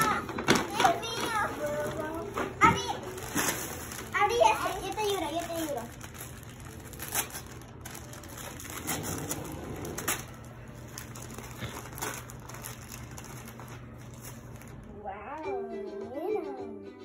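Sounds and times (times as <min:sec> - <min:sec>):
tissue paper rustling and crinkling: 0:00.0 - 0:14.9.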